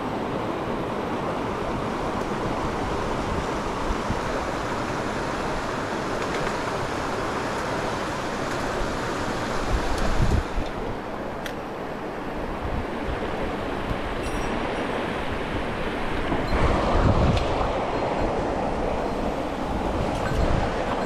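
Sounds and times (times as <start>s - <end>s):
stream rushing: 0.0s - 21.0s.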